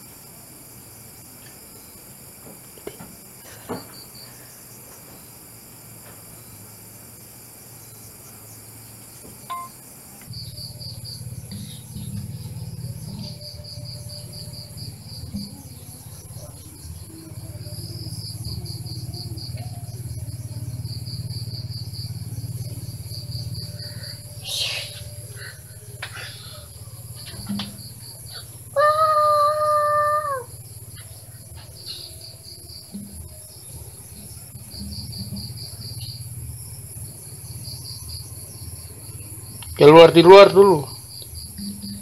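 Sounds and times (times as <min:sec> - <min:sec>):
crickets buzzing and trilling: 0:00.0 - 0:42.0.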